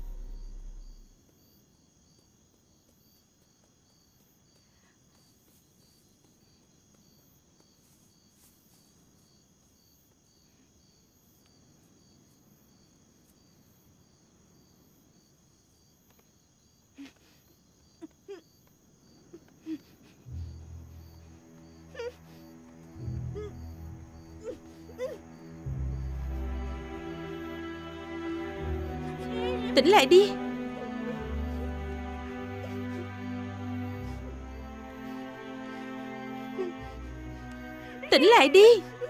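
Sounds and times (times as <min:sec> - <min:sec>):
insect chirping: 0:00.0 - 0:39.0.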